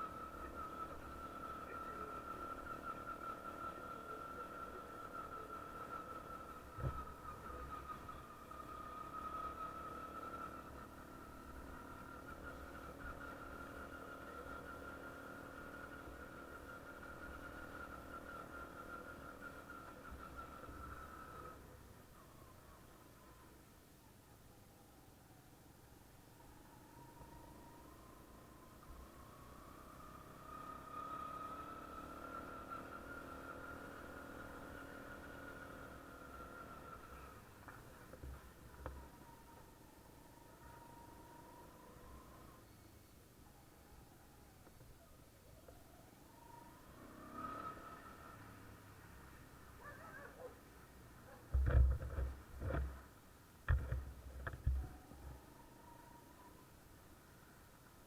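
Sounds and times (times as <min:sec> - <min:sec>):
small engine whining: 0:00.0 - 0:58.0.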